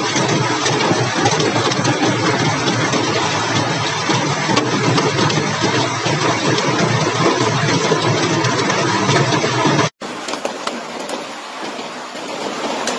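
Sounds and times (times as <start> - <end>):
hail clattering on roof tiles: 0.0 - 12.9.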